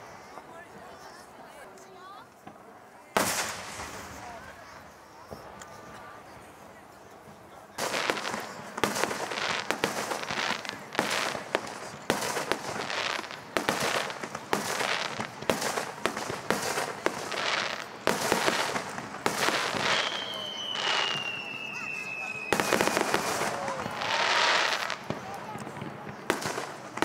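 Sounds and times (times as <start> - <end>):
hiss after firework bangs: 2.4 - 6.5, 7.7 - 27.0.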